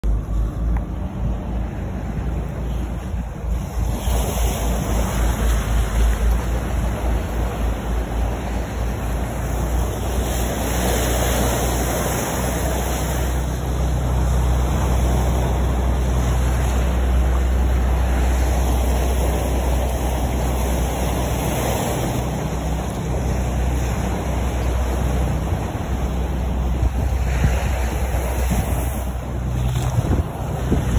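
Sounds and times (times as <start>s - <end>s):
boat engine drone: 0.0s - 30.9s
sea water splashing: 0.0s - 30.9s
wind buffeting microphone: 0.0s - 30.9s.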